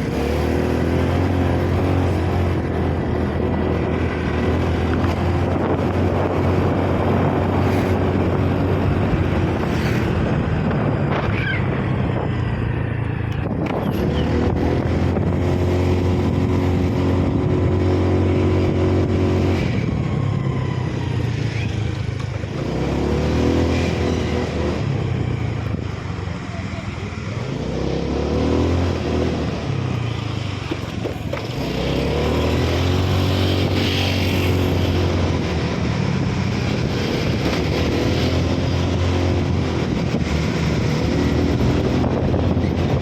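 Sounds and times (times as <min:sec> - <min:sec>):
vehicle engine running on a climb: 0:00.0 - 0:43.0.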